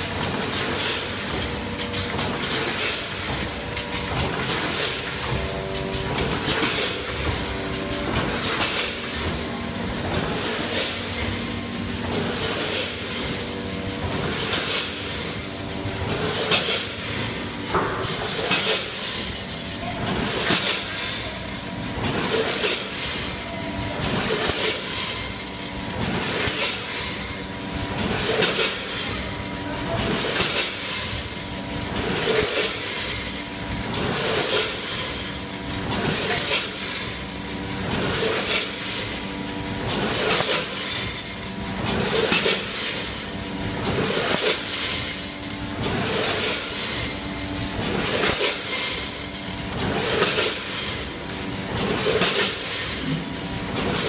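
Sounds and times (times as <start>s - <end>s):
kernels rattling through steel hoppers: 0.0s - 54.0s
machine hum: 0.0s - 54.0s.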